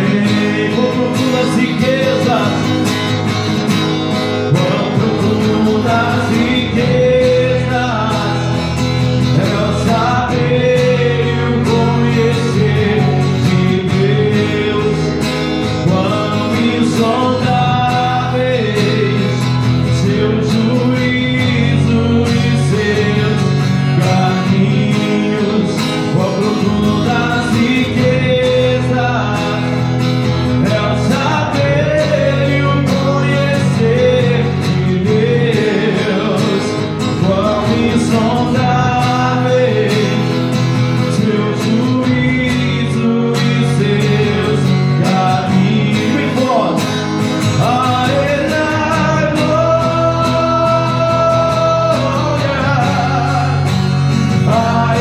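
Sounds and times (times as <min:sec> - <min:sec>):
acoustic guitar strumming: 0:00.0 - 0:55.0
man singing: 0:00.0 - 0:55.0.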